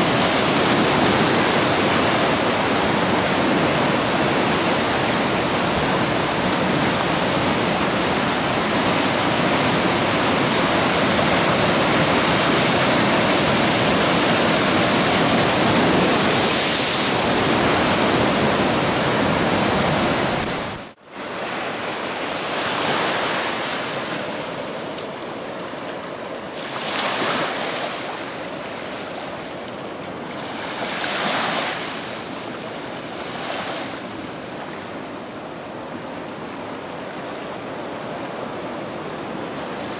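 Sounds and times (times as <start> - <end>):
surf breaking around rocks: 0.0 - 34.9
small waves washing onto beach: 0.0 - 39.9.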